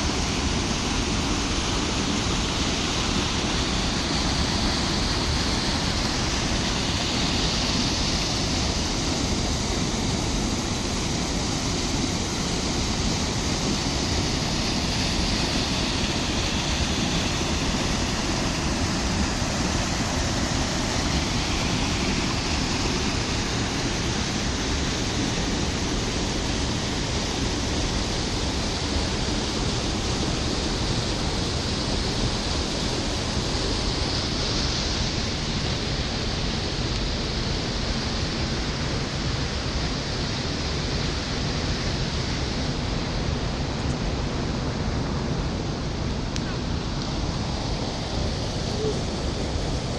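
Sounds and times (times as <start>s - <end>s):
river water rushing: 0.0s - 49.9s.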